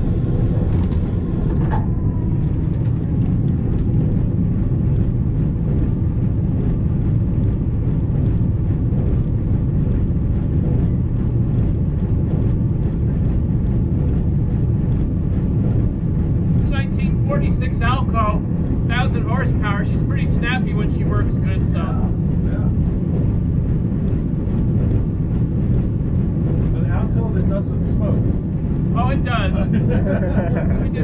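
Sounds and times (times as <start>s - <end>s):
diesel locomotive rumbling: 0.0s - 31.0s.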